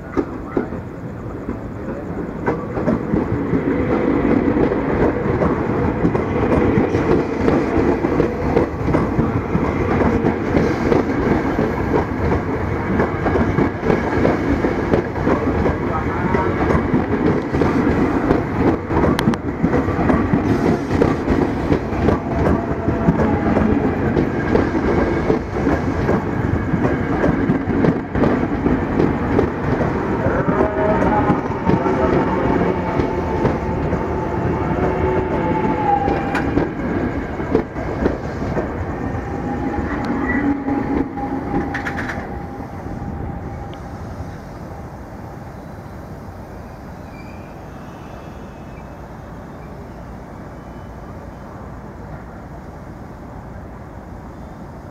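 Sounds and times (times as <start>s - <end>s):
electric train passing: 0.0s - 54.9s.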